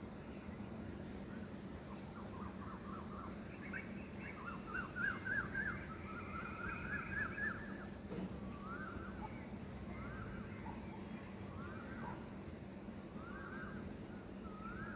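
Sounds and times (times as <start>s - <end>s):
steady background hiss: 0.0s - 14.9s
birds chirping: 0.2s - 14.9s.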